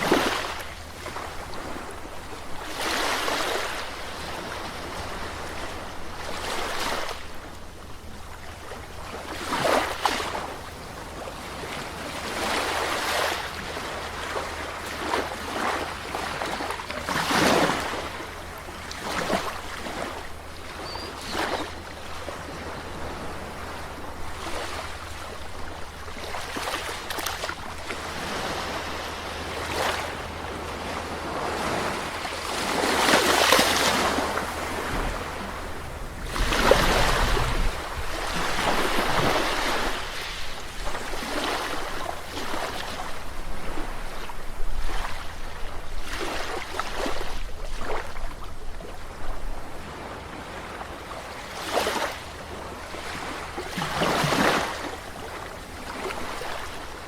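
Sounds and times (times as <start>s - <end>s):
low rumble of surf: 0.0s - 57.0s
small waves washing on shore: 0.0s - 57.0s.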